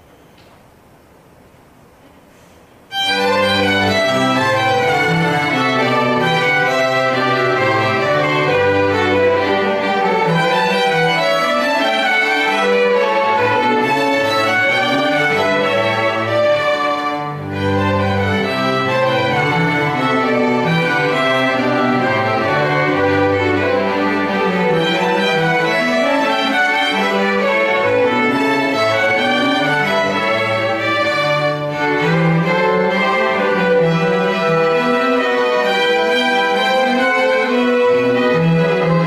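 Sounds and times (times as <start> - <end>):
bowed string ensemble: 2.9 - 39.0.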